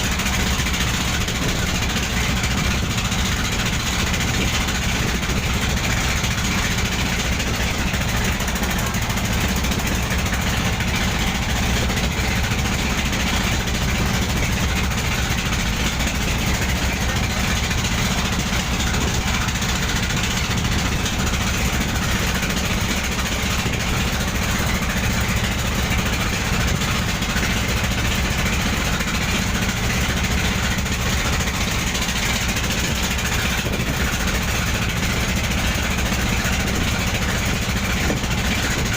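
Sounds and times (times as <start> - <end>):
boat engine rumbling: 0.0 - 38.9.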